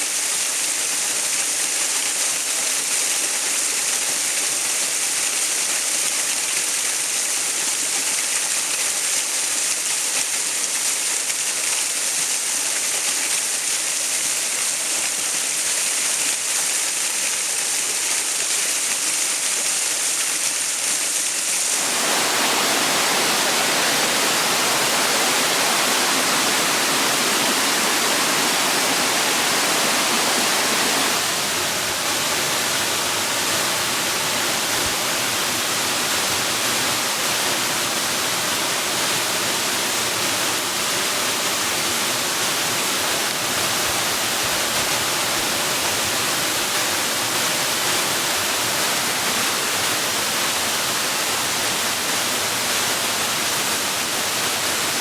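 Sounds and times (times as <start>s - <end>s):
rushing water: 9.4s - 55.0s.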